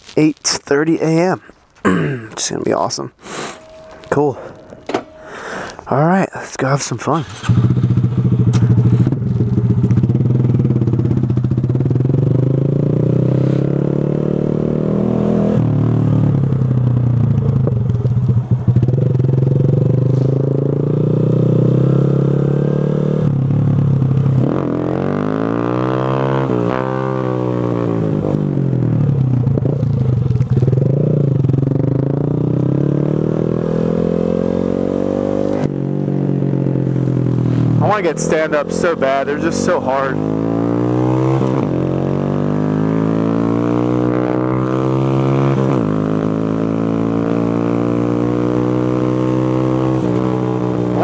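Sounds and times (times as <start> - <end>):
motorcycle engine revving: 7.0 - 51.0.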